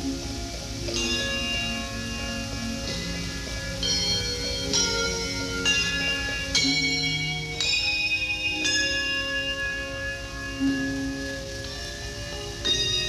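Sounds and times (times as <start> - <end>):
handbells ringing a slow melody: 0.0 - 13.0.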